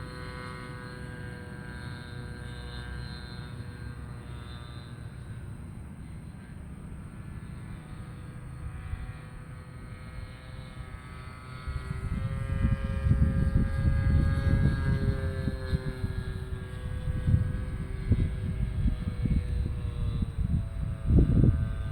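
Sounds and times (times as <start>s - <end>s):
model plane engine flying past: 0.0s - 21.9s.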